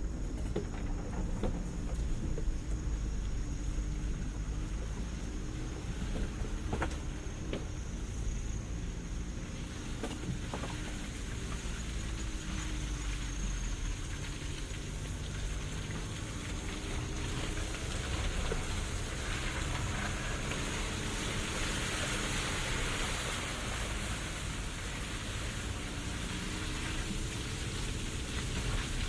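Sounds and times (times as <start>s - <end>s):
car engine humming: 0.0s - 29.0s.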